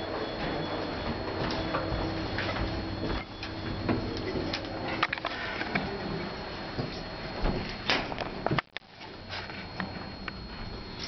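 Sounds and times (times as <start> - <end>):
elevator hum: 0.0 - 11.0.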